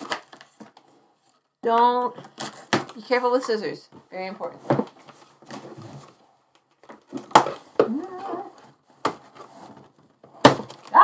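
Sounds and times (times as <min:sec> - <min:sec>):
cardboard rustling: 0:02.2 - 0:11.0.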